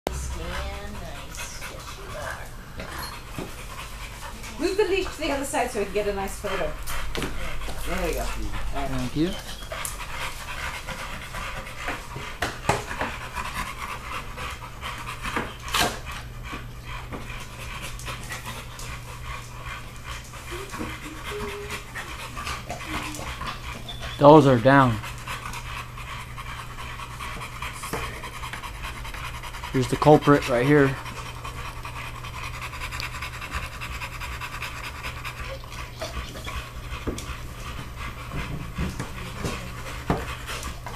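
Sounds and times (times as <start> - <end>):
dog panting: 0.1 - 40.9.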